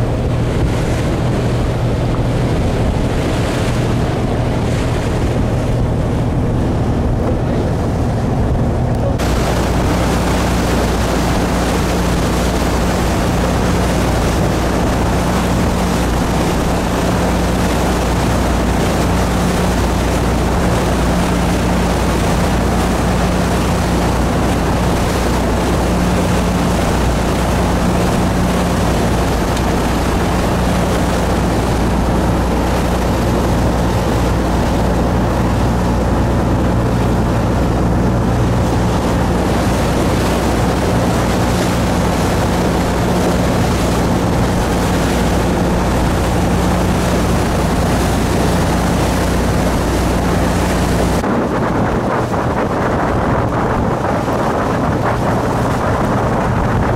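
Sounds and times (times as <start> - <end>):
boat engine droning: 0.0 - 56.9
water rushing along hull: 0.0 - 56.9.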